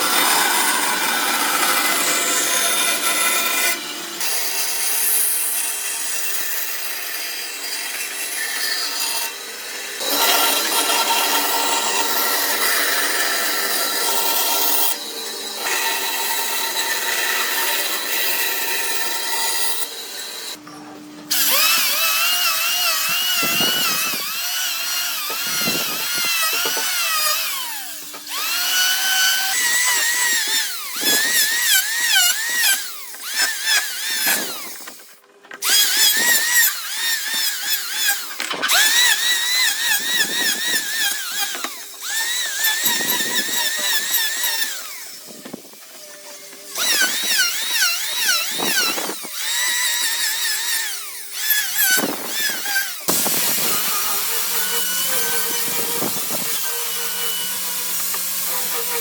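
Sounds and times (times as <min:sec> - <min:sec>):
power tool motor whine: 0:09.2 - 0:59.0.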